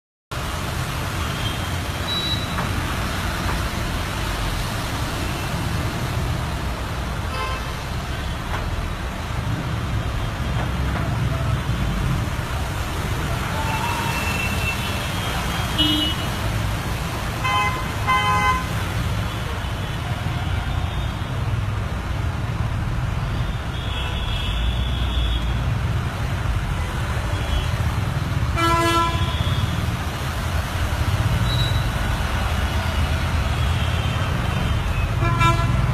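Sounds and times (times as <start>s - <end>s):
traffic engines rumbling: 0.3s - 35.9s.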